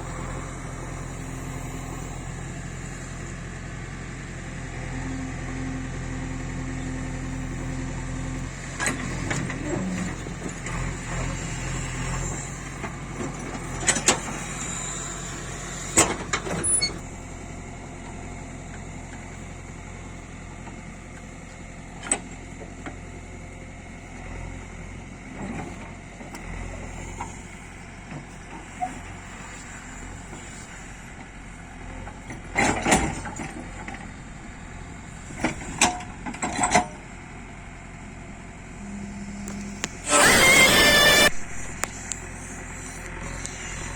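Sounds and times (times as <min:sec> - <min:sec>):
diesel engine under load: 0:00.0 - 0:43.9.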